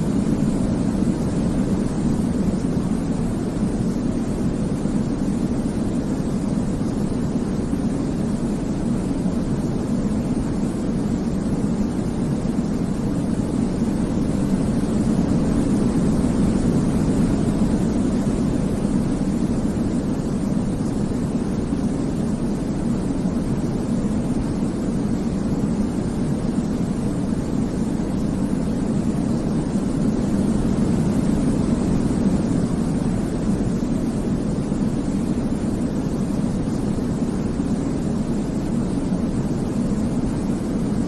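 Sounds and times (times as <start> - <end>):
deep rumbling white noise: 0.0 - 41.0.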